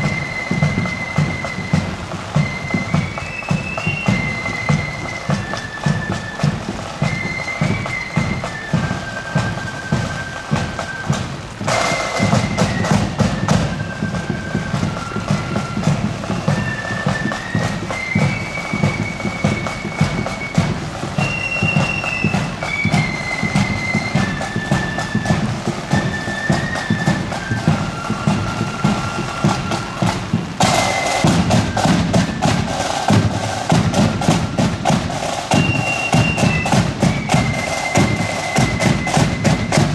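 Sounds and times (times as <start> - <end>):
marching band melody: 0.0 - 39.9
regular drumbeats: 0.0 - 39.9.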